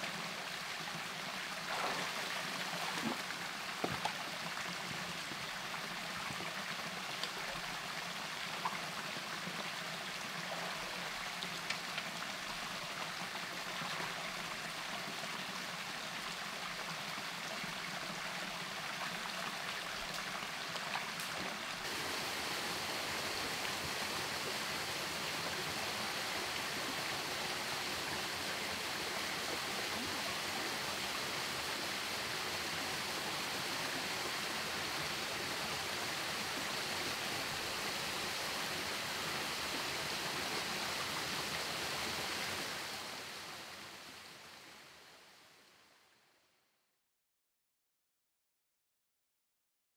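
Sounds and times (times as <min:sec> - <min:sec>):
small waterfall rushing: 0:00.0 - 0:45.7
stream flowing: 0:00.0 - 0:45.7.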